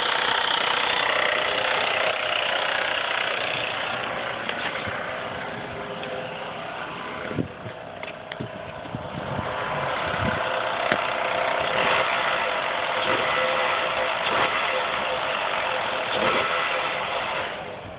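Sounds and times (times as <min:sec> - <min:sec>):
car engine rattling: 0:00.0 - 0:17.9.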